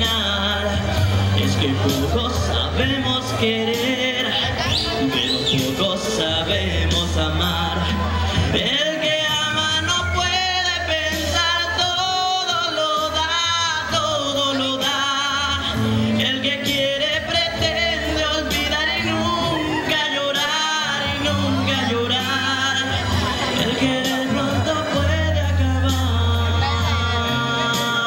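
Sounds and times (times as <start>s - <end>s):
man singing: 0.0s - 28.0s
steady bass line: 0.0s - 28.0s.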